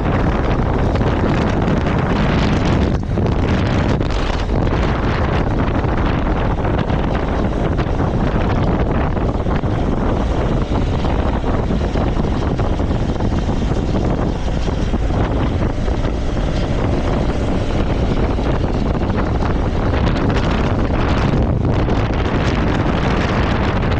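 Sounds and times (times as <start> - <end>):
motorcycle engine running: 0.0 - 23.9
wind buffeting microphone: 0.0 - 23.9.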